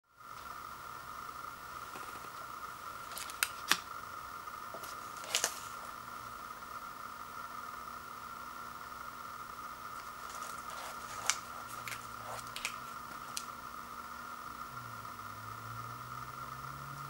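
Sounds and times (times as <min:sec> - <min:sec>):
steady high hum: 0:00.0 - 0:17.0.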